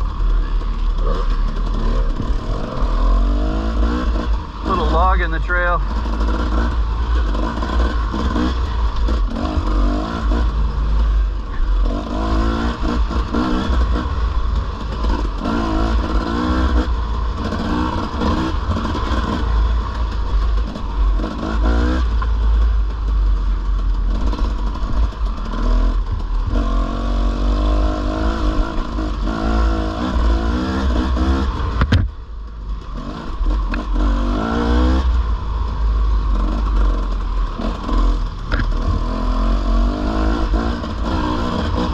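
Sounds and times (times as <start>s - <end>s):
dirt bike engine revving: 0.0s - 32.1s, 32.8s - 41.9s.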